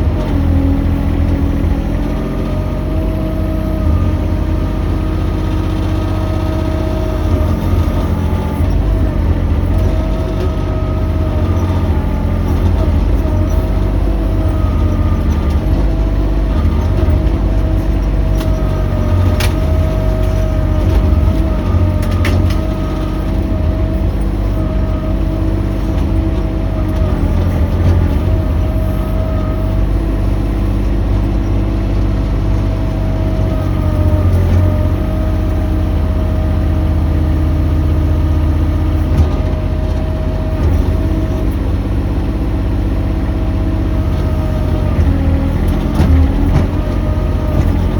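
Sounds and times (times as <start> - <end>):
excavator engine drone: 0.0 - 47.9.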